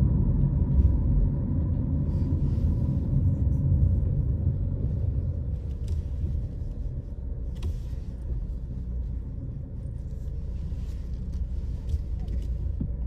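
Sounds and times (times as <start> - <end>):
car driving road and engine noise: 0.0 - 13.0.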